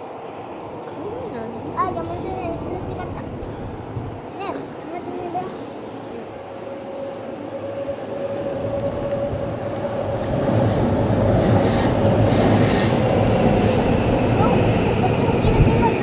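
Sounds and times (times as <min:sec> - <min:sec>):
electric train running past: 0:00.0 - 0:16.0.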